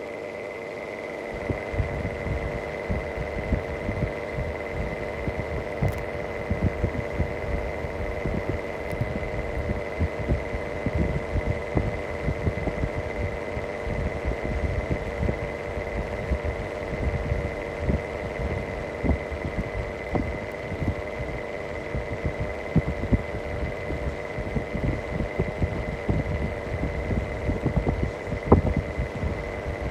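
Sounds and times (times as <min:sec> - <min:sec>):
exhaust fan hum and whine: 0:00.0 - 0:29.9.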